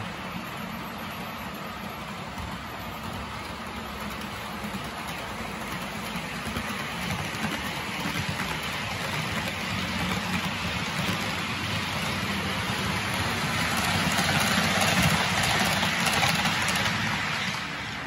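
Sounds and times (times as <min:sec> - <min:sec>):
model train wheels rattling on rail: 0:00.0 - 0:18.0.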